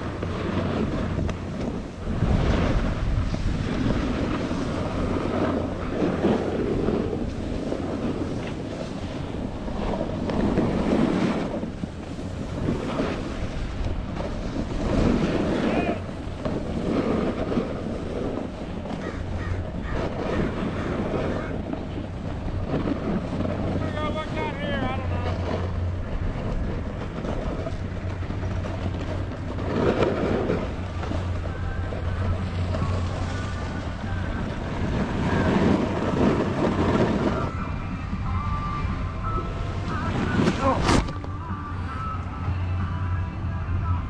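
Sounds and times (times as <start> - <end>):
skis scraping on snow: 0.0 - 42.2
wind buffeting microphone: 0.0 - 44.0.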